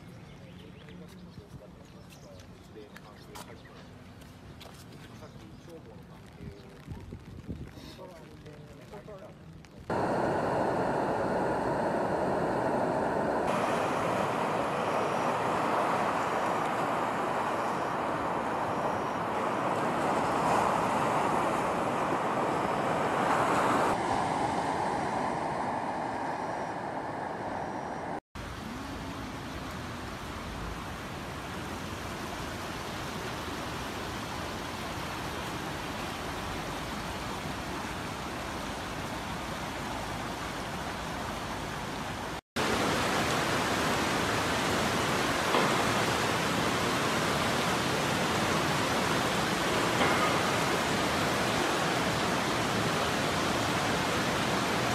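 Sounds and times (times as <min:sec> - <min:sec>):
rain: 0:04.8 - 0:54.9
floodwater rushing: 0:09.8 - 0:54.9.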